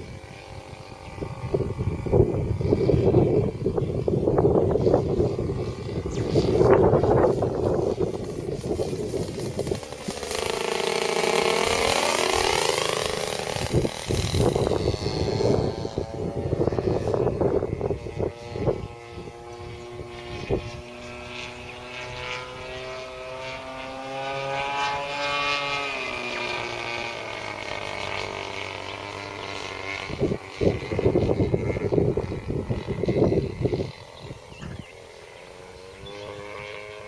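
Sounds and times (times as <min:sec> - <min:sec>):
wind buffeting microphone: 0:00.0 - 0:23.2, 0:25.3 - 0:37.0
model airplane motor droning: 0:00.0 - 0:37.0.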